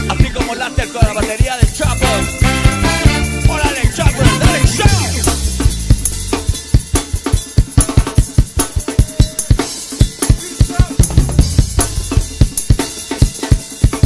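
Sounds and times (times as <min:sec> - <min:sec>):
drum kit playing a fast break: 0:00.0 - 0:14.0.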